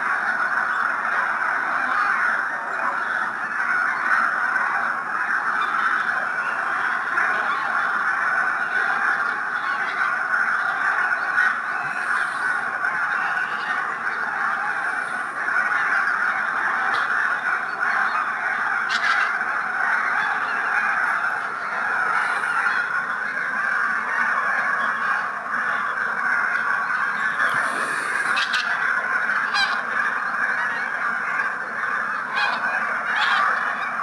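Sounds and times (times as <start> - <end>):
geese honking: 0.0 - 34.0.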